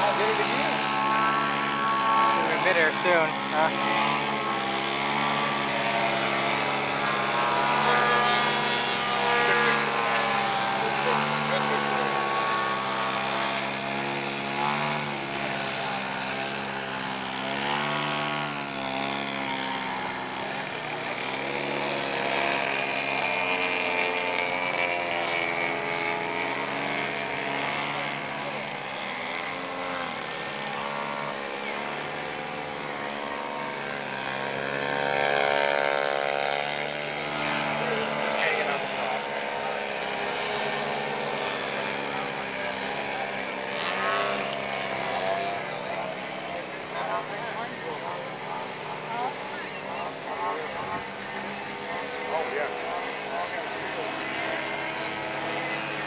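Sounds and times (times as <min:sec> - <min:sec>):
model airplane engine and propeller: 0:00.0 - 0:56.0.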